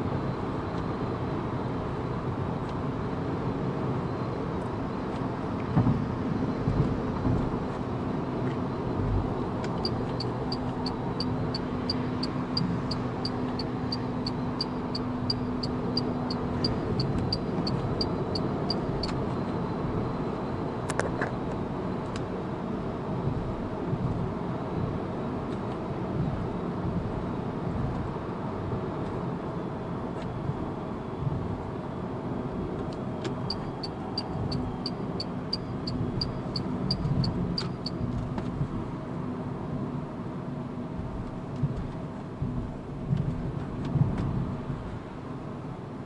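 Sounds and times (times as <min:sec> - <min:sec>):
road and tyre noise: 0:00.0 - 0:46.0.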